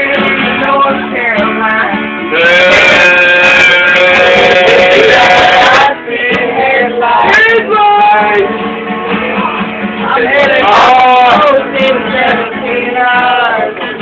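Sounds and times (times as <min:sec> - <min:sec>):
acoustic guitar: 0:00.0 - 0:14.0
voices singing: 0:00.0 - 0:14.0.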